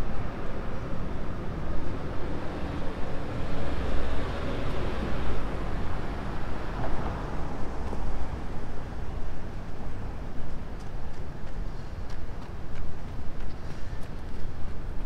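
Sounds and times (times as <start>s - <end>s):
passing road traffic: 0.0s - 15.0s.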